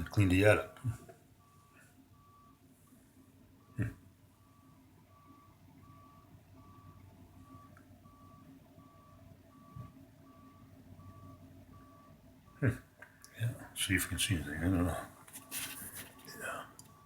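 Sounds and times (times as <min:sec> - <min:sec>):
faint truck backup alarm beeping: 0:00.0 - 0:17.0.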